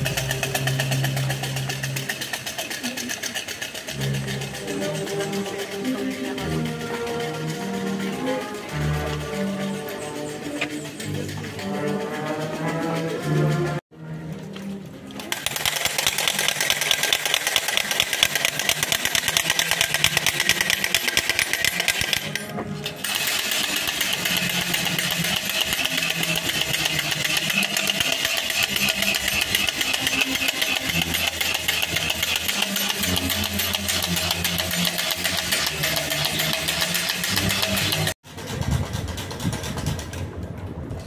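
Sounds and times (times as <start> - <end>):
low melody: 0.0 - 2.6, 3.8 - 38.1
rapid clattering rattle: 0.0 - 13.8, 15.2 - 40.3.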